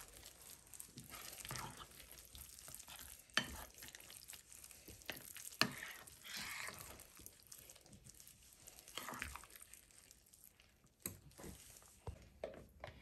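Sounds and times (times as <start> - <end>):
spoon mashing dip in bowl: 0.0 - 12.7.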